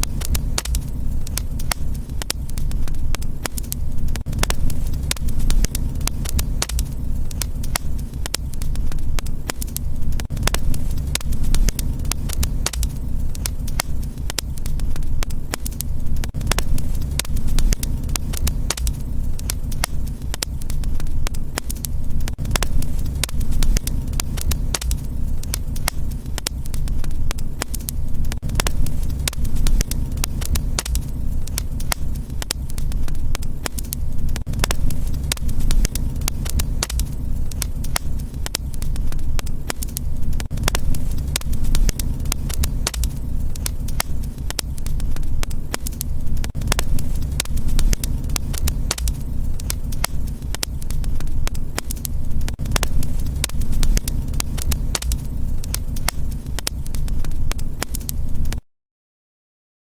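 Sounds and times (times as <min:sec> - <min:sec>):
low rumble of flames: 0:00.0 - 0:58.6
wood fire crackling: 0:00.0 - 0:58.6.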